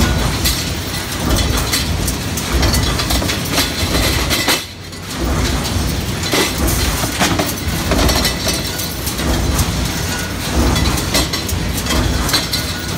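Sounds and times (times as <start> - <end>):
metallic clanks and clinks: 0.0 - 12.9.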